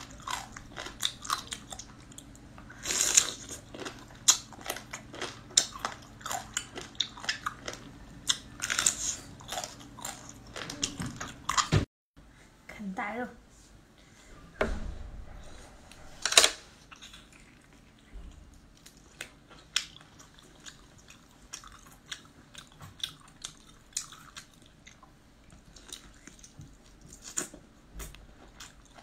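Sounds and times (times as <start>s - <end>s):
woman chewing food: 0.0s - 11.7s, 16.8s - 29.0s.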